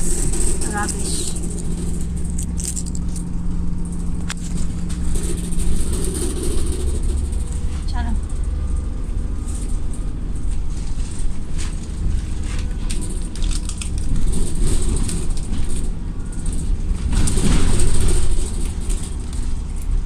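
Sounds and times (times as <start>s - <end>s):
knocks and rattles: 0.0s - 10.1s, 12.4s - 20.0s
bus engine and road rumble: 0.0s - 20.0s.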